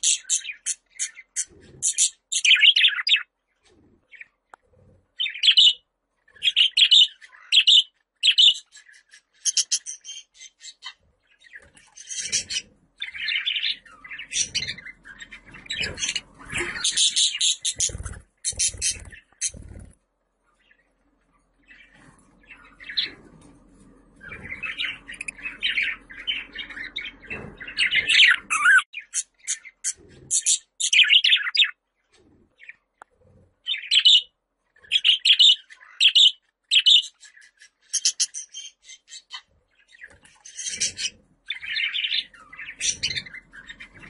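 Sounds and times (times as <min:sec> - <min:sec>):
budgerigars chirping and warbling: 0:00.0 - 0:44.0.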